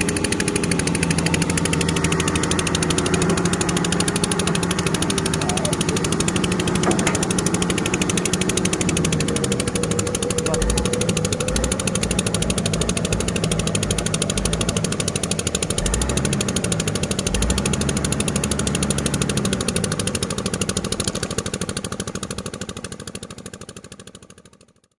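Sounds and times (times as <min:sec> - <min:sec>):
diesel engine clattering: 0:00.0 - 0:24.7.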